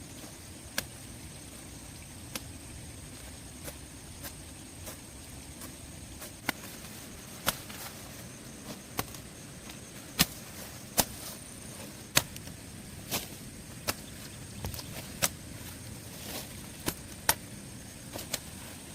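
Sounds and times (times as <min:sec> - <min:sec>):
background hiss: 0:00.0 - 0:18.9.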